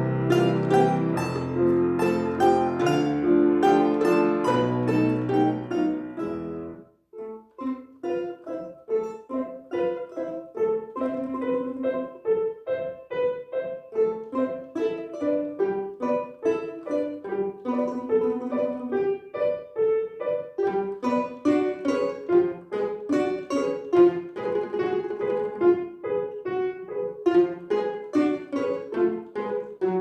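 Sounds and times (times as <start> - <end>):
instrumental duet: 0.0 - 30.0.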